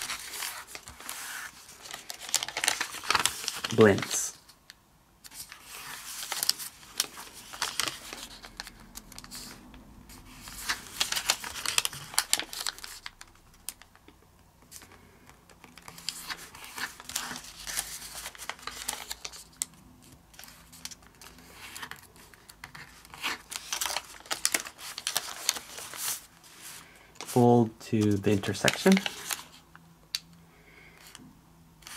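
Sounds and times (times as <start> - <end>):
paper crinkling and rustling: 0.0 - 4.6, 5.2 - 14.0, 14.6 - 29.7.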